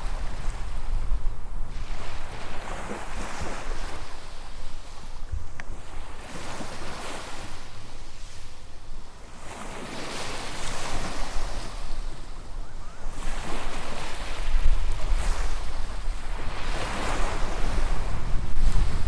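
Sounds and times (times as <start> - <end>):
small waves breaking on beach: 0.0 - 19.0
wind rumble on microphone: 0.0 - 19.0.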